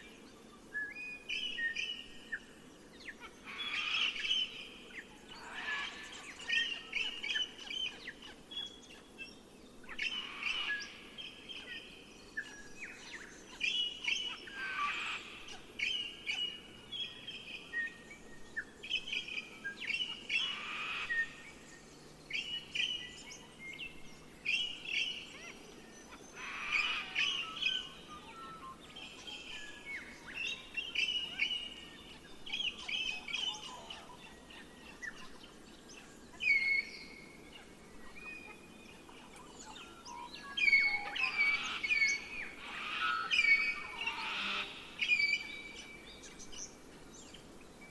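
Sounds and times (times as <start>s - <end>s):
birds chirping: 0.0s - 47.9s
faint background hiss: 0.0s - 47.9s.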